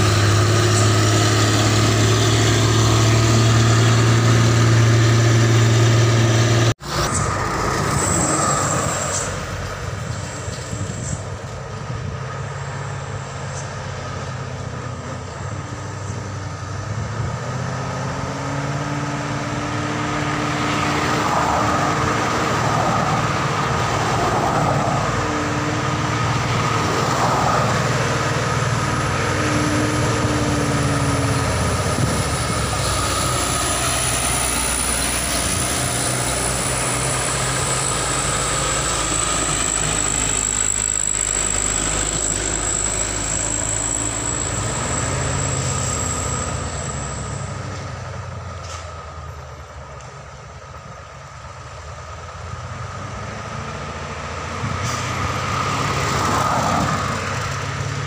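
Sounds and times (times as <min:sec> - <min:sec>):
cars passing: 0:00.0 - 0:58.0
truck engine labouring uphill: 0:00.0 - 0:58.0.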